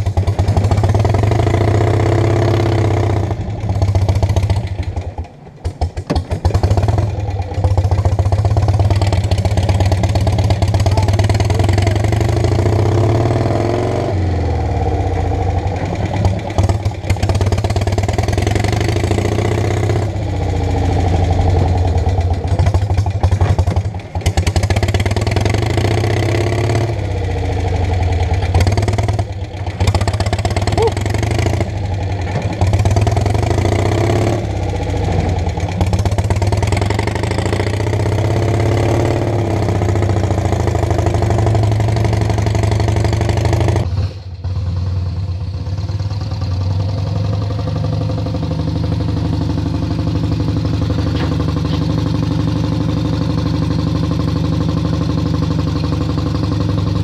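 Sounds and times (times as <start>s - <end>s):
car engine running: 3.2s - 38.7s, 39.3s - 57.0s.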